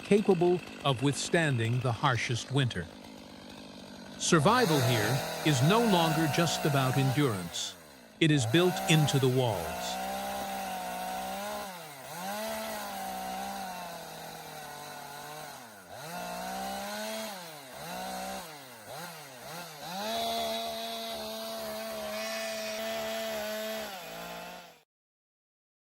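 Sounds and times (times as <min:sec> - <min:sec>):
chainsaw cutting timber: 0:00.0 - 0:24.9.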